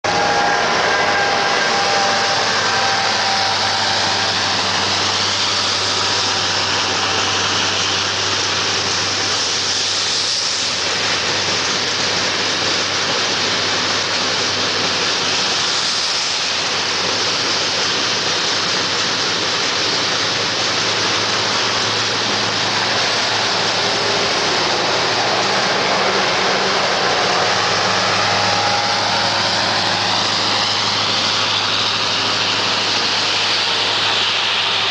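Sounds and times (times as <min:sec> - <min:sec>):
low hum: 0:00.0 - 0:34.9
train wheels rumbling on rails: 0:00.0 - 0:34.9.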